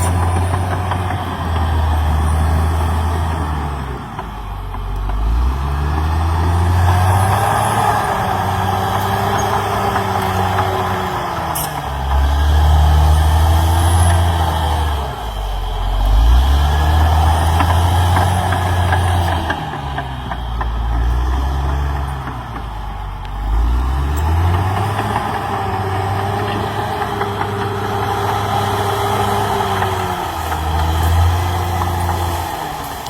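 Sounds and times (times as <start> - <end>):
bulldozer diesel engine: 0.0 - 33.0.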